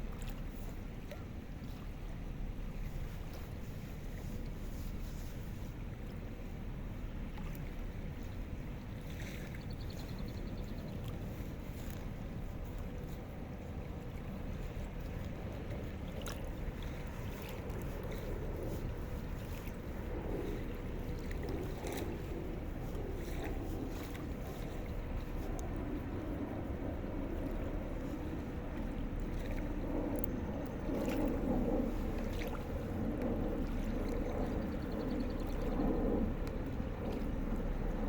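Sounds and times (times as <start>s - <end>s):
boat engine drone: 0.0s - 38.0s.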